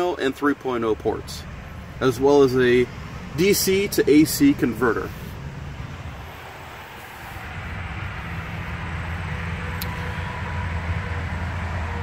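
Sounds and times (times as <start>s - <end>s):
truck engine hum inside cab: 0.0s - 12.0s.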